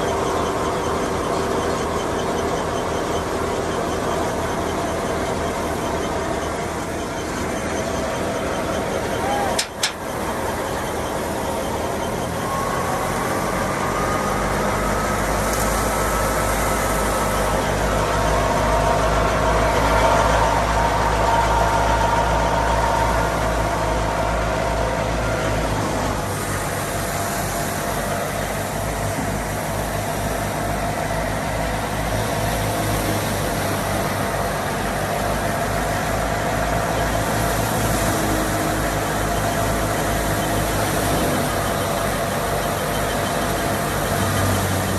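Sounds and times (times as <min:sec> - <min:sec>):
thin whine: 0:00.0 - 0:44.9
tractor diesel engine running: 0:00.0 - 0:44.9.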